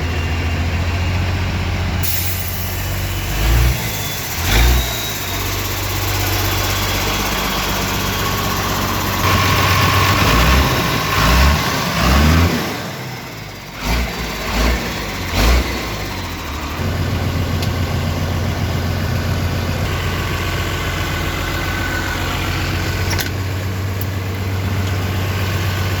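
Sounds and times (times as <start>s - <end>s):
truck diesel engine revving: 0.0s - 26.0s.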